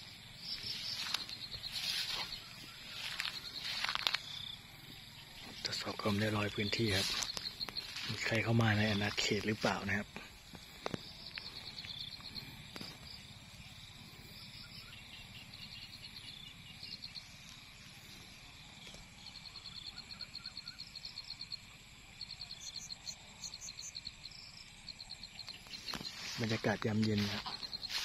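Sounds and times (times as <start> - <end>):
frogs calling: 0.0 - 28.0
insects buzzing: 0.0 - 28.0.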